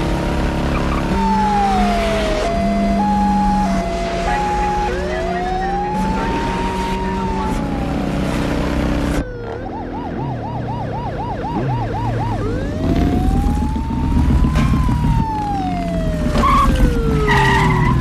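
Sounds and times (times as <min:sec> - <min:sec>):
low engine hum: 0:00.0 - 0:17.3
siren wailing and yelping: 0:00.5 - 0:18.0.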